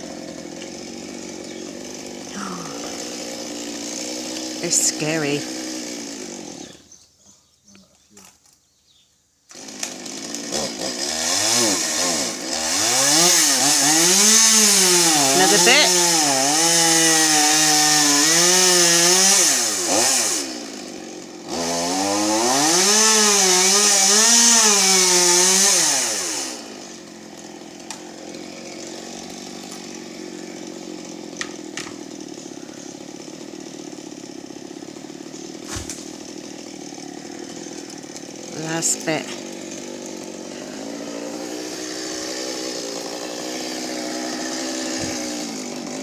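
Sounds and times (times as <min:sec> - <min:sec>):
chainsaw cutting wood: 0:00.0 - 0:07.0, 0:09.4 - 0:46.0.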